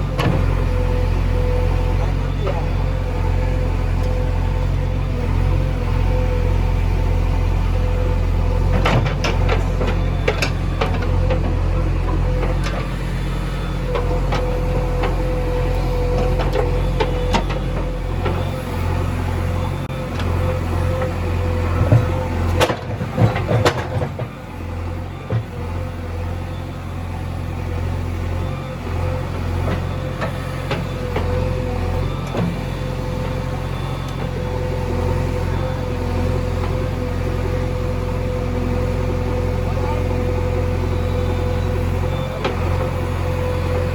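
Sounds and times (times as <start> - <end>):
vehicle engine whining: 0.0 - 43.9.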